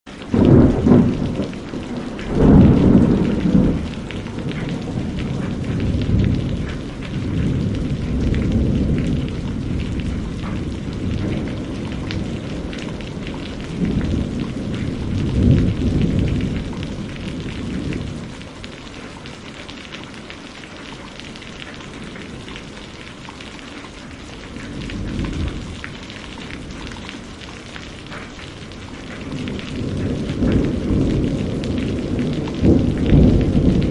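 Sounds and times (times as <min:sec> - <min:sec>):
heavy rain: 0:00.0 - 0:33.9
thunder rumbling: 0:00.1 - 0:33.9.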